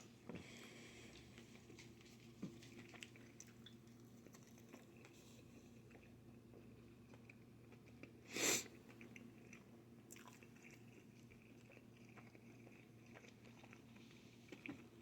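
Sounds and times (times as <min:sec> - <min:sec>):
person chewing: 0:01.0 - 0:15.0.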